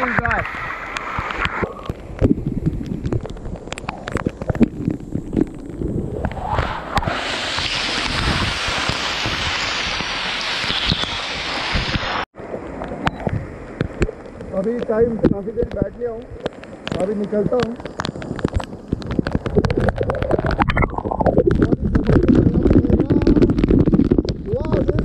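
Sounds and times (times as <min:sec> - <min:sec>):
rush of falling water: 0:00.0 - 0:02.3, 0:03.0 - 0:25.0
waterfall splashing on microphone: 0:00.0 - 0:25.0.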